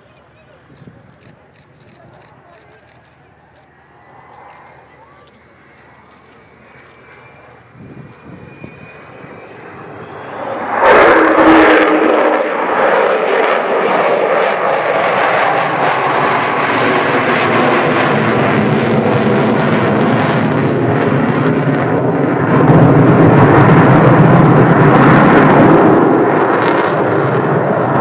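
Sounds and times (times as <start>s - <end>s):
jet aircraft flying past: 0.0s - 28.0s.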